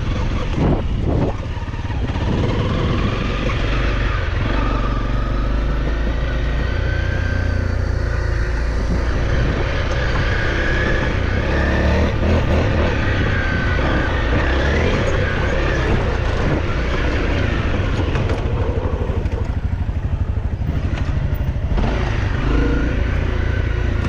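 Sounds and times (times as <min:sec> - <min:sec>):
off-road motorcycle engine running: 0:00.0 - 0:24.0.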